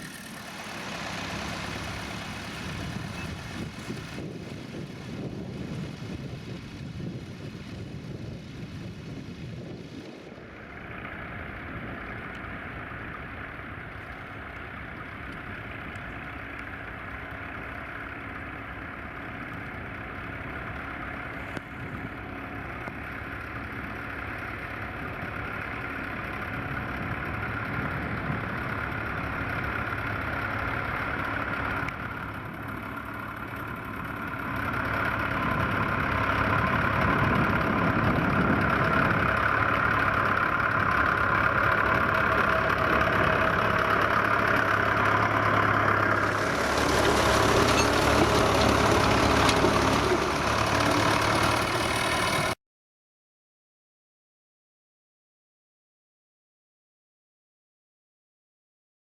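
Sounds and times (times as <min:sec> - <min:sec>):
tractor engine running: 0:00.0 - 0:52.6.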